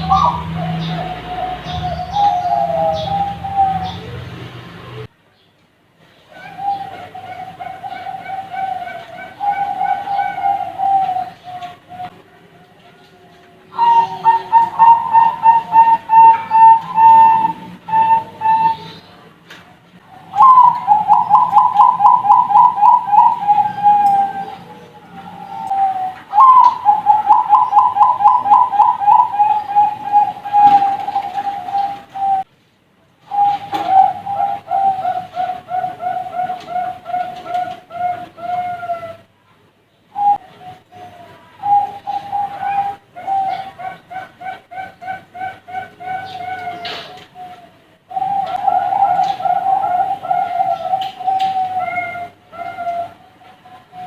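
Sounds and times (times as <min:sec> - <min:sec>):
dove cooing: 0:00.0 - 0:05.1, 0:06.3 - 0:19.2, 0:20.1 - 0:32.5, 0:33.2 - 0:39.3, 0:40.1 - 0:54.0.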